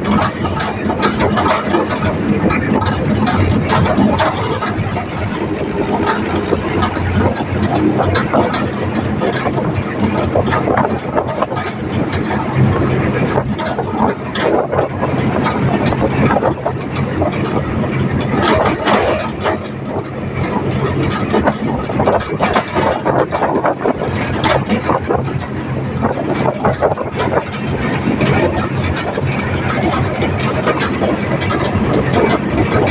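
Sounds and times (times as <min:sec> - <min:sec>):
loud rattling and clattering: 0:00.0 - 0:32.9
tractor engine running: 0:00.0 - 0:32.9.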